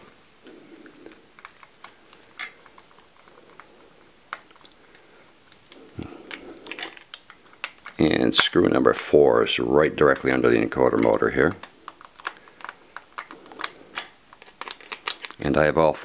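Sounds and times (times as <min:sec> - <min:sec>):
soft handling rustle: 0:00.0 - 0:16.0.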